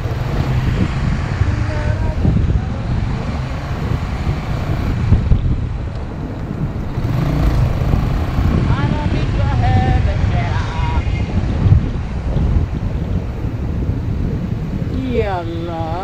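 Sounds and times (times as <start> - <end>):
motorcycle engine and road rumble: 0.0 - 16.0
wind buffeting microphone: 0.0 - 16.0.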